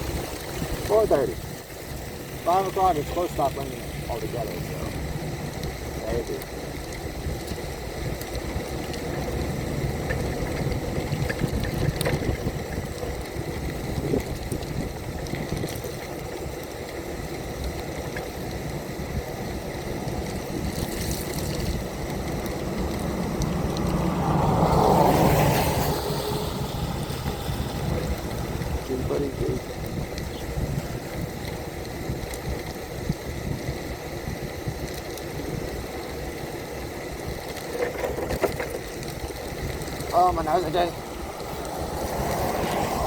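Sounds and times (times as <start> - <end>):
road noise: 0.0 - 43.0
wheelchair rolling on wet street: 0.0 - 43.0.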